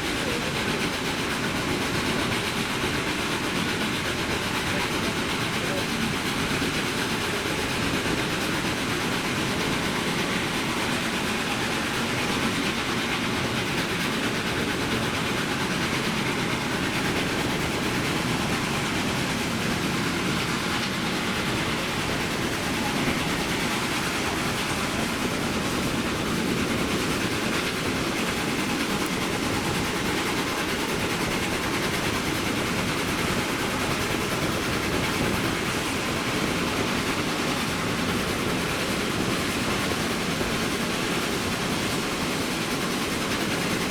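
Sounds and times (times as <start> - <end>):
train wheels rolling on rails: 0.0 - 43.9.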